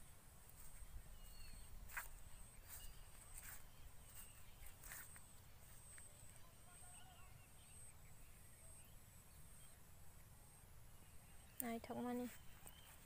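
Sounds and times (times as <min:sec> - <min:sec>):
faint chirps: 0:00.6 - 0:13.0.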